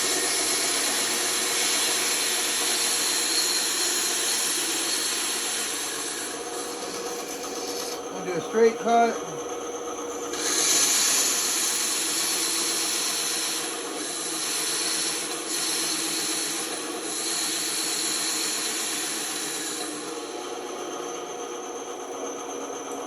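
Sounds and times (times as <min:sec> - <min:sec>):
saw blade cutting wood: 0:00.0 - 0:09.1, 0:10.3 - 0:20.2
band saw motor hum: 0:00.0 - 0:23.0.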